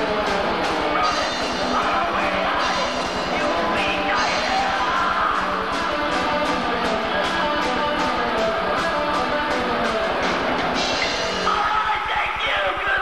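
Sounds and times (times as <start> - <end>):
rock band playing: 0.0 - 12.1.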